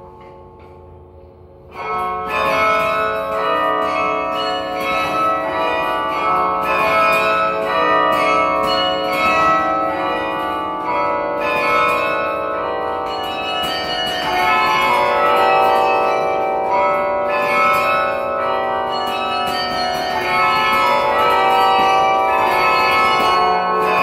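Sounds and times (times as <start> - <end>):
carillon bells ringing in chords: 0.0 - 24.0.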